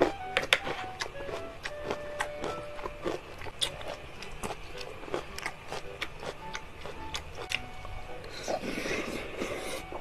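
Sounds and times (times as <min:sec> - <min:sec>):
wet chewing and mouth clicks: 0:00.0 - 0:08.7
faint background music: 0:00.0 - 0:10.0.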